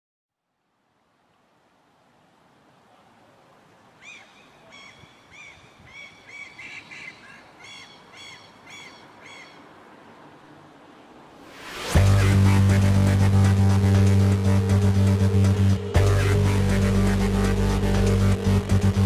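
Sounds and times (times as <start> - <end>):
background hiss: 0.4 - 19.0.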